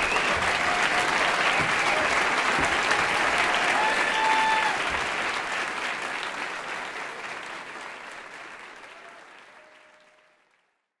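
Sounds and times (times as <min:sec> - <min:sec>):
audience applause: 0:00.0 - 0:10.9.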